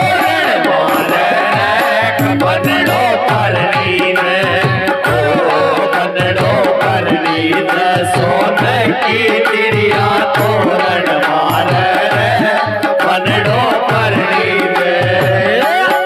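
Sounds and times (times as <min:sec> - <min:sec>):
dholak drum beating: 0:00.0 - 0:16.0.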